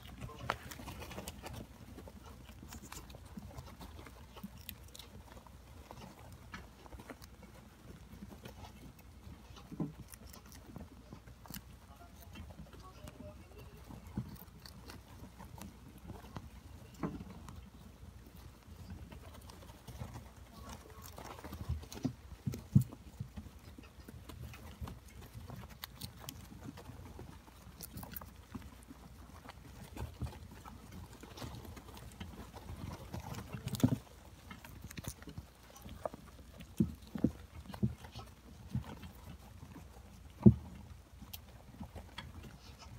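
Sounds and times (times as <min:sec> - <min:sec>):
hamsters rustling in bedding: 0:00.0 - 0:42.9.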